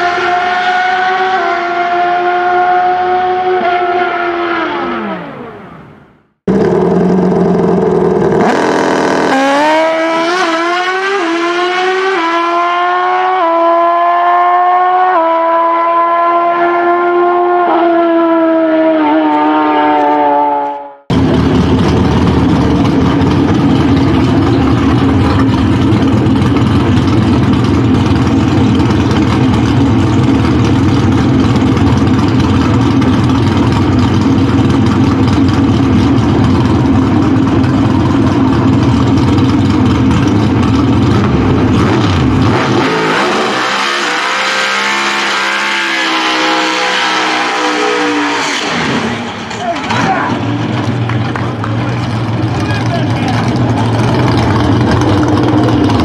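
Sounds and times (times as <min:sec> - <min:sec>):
loud car engine running: 0:00.0 - 0:18.4, 0:21.1 - 0:56.0
distant engine revving: 0:00.0 - 0:56.0.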